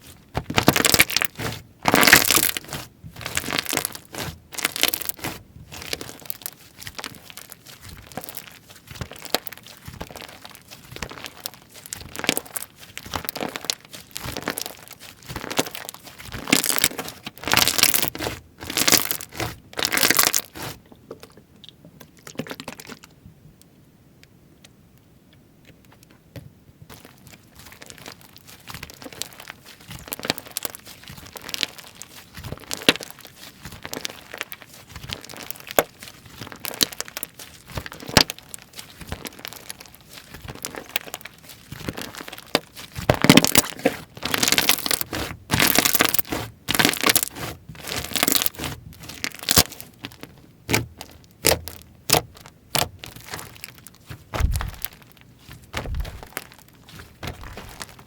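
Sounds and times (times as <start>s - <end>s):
slime crackling and popping: 0.0s - 21.4s, 26.9s - 58.0s.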